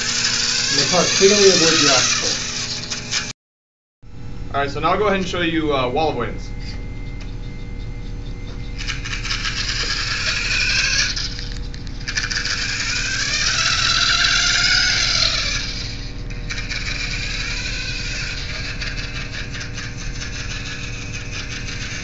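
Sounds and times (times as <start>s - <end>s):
electric motor whirring with rattle: 0.0s - 3.3s, 6.5s - 22.0s.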